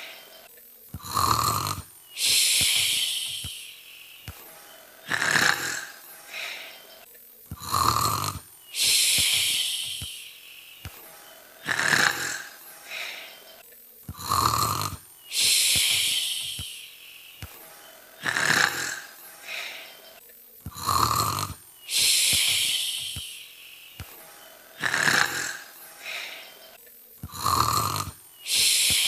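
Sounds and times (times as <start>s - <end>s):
imitated snoring: 0.0s - 29.0s.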